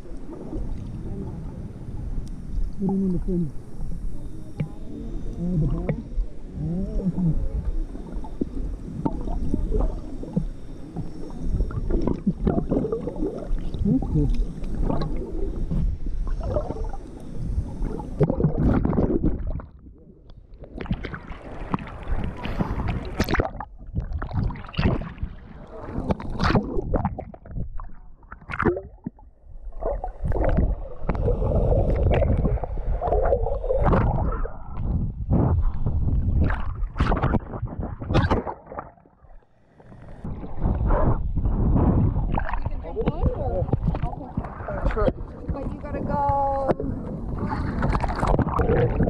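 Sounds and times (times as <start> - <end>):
underwater sloshing and bubbling: 0.0 - 49.0.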